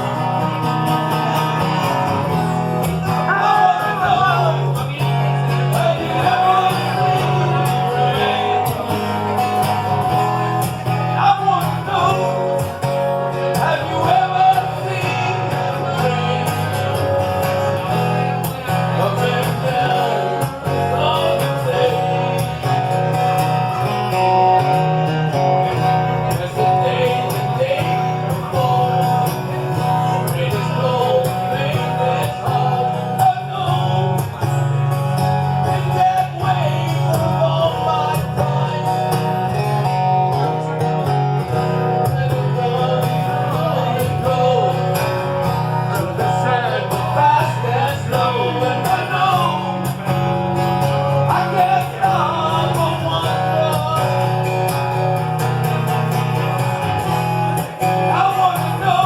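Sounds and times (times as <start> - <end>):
person singing: 0.0 - 40.8, 41.7 - 55.6, 57.6 - 59.0
guitar accompaniment: 0.0 - 59.0
steady bass line: 0.0 - 59.0.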